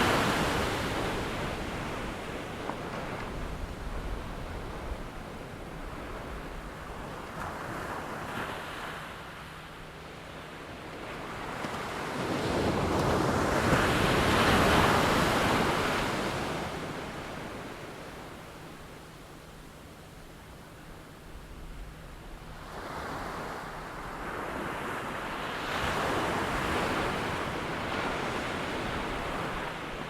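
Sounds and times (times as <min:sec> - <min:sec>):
surf washing in: 0:00.0 - 0:19.1, 0:20.7 - 0:30.0.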